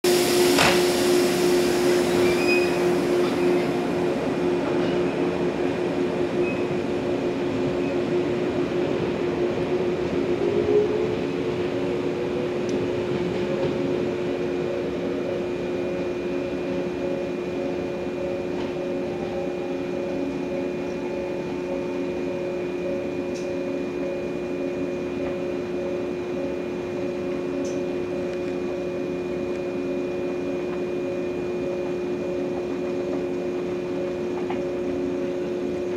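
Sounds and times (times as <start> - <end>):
electric train humming: 0.0 - 35.9.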